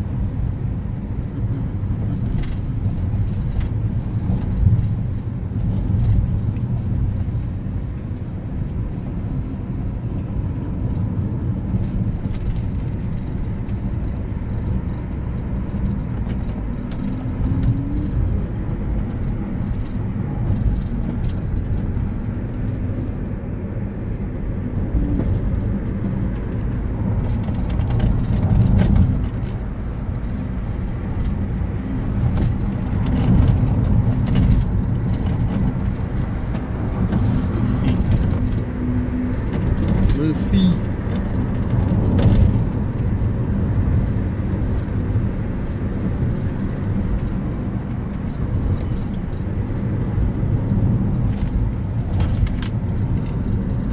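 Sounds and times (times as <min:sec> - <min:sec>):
car cabin road and engine rumble: 0:00.0 - 0:53.9.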